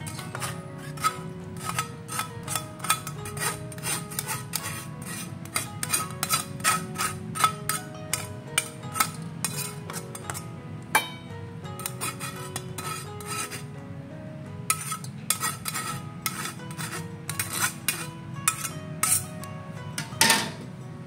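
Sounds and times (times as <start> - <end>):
scraping against wire mesh strainer: 0.0 - 10.4, 11.8 - 13.7, 14.7 - 19.3
soft background music: 0.0 - 21.0.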